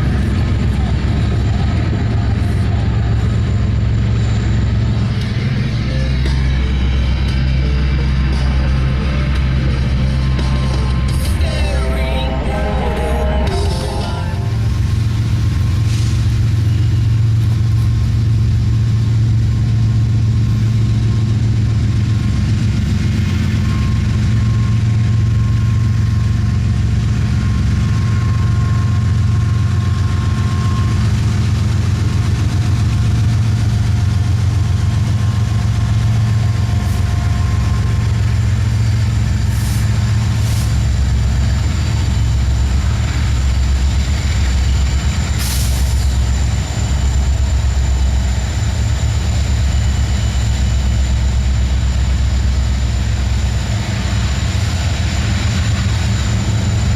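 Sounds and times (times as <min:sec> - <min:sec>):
heavy engine idling: 0:00.0 - 0:56.9.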